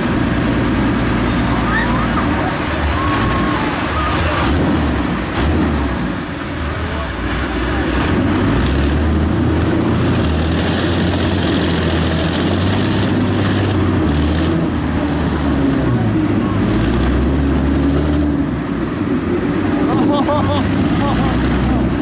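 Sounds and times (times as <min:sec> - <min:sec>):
constant rushing noise: 0:00.0 - 0:22.0
diesel engine droning under load: 0:00.0 - 0:22.0.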